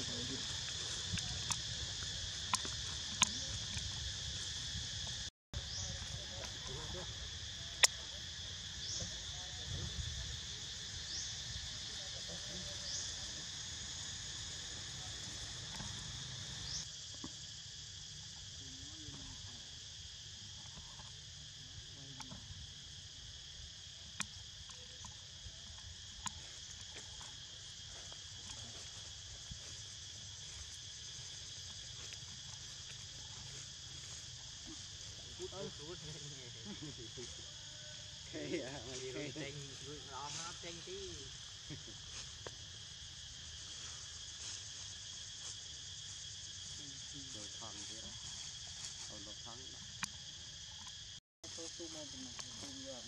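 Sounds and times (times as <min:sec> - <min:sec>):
shrill insect chorus: 0:00.0 - 0:53.0.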